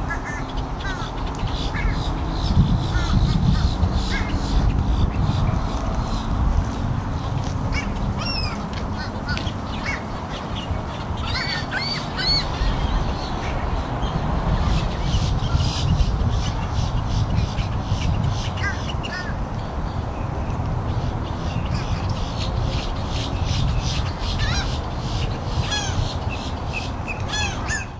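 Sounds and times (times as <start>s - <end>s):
gulls calling: 0.0s - 6.4s, 7.2s - 19.4s, 20.9s - 27.9s.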